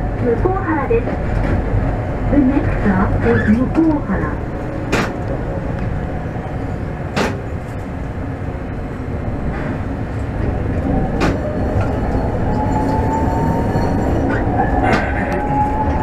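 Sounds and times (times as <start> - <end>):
streetcar rumbling on track: 0.0 - 16.0.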